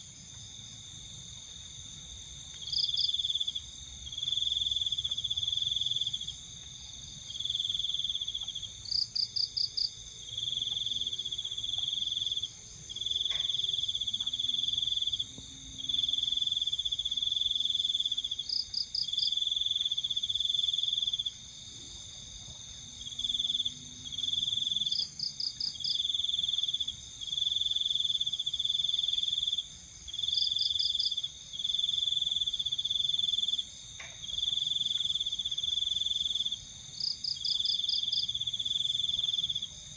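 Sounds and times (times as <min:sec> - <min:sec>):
insect drone: 0:00.0 - 0:39.9
rapid pulsed insect call: 0:00.0 - 0:39.9
crickets trilling: 0:00.2 - 0:39.9.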